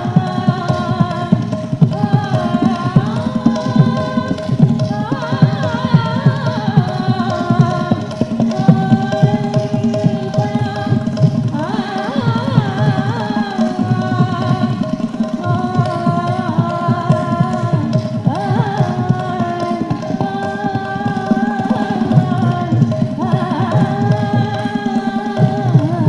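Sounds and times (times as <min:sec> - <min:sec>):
tabla drumming: 0:00.0 - 0:26.0.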